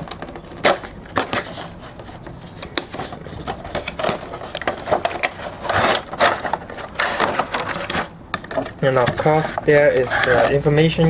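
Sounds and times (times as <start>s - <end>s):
cardboard and plastic rustling: 0.0s - 11.0s.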